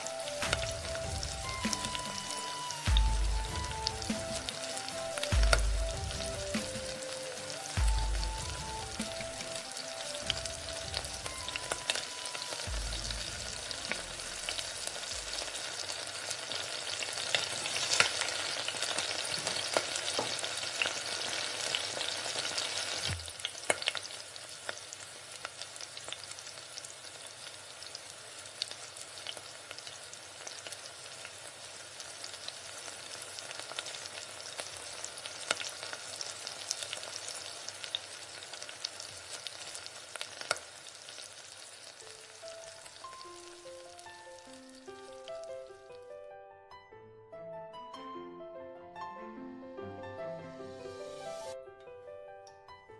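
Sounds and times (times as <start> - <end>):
potatoes sizzling in oil: 0.0 - 45.3.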